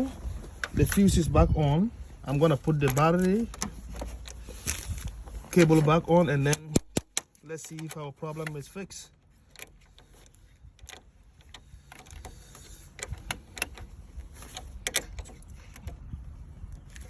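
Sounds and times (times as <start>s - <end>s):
metallic clicks and light knocks: 2.6s - 17.0s.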